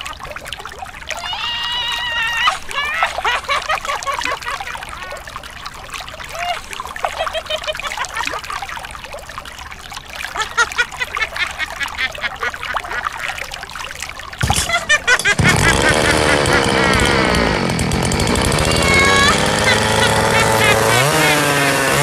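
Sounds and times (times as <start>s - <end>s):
water gurgling and trickling: 0.0s - 22.0s
water pouring and splashing: 0.0s - 22.0s.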